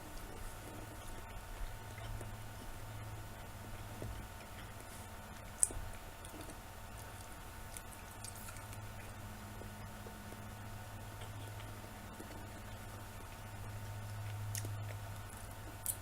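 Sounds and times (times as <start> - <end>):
person chewing: 0.0 - 2.7, 3.8 - 10.6, 11.2 - 16.0.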